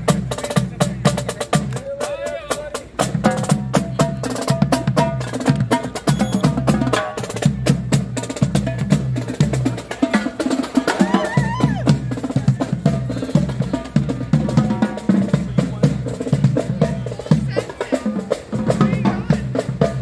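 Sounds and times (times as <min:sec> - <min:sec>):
marching drum line: 0:00.0 - 0:20.0.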